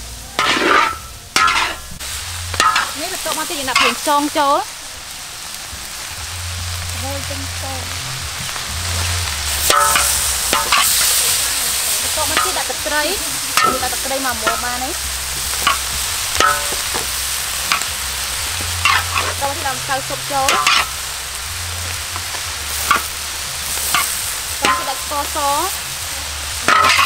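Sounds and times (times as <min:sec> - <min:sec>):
frying sizzle: 0:00.0 - 0:27.0
metal spatula scraping wok: 0:00.4 - 0:04.4, 0:07.9 - 0:27.0.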